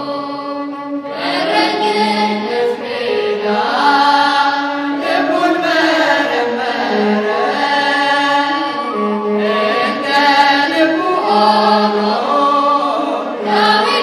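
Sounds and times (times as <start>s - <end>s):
mixed choir singing a hymn: 0.0s - 14.0s.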